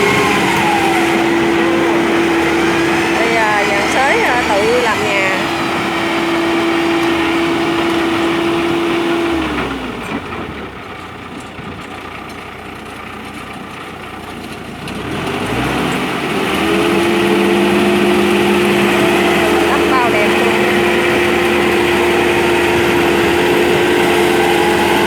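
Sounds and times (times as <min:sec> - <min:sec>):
tractor engine droning: 0:00.0 - 0:25.0.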